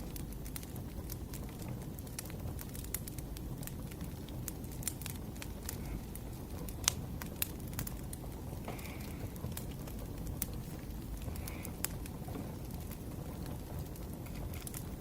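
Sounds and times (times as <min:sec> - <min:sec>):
firewood crackling and snapping: 0:00.0 - 0:15.0
low rumble of flames: 0:00.0 - 0:15.0.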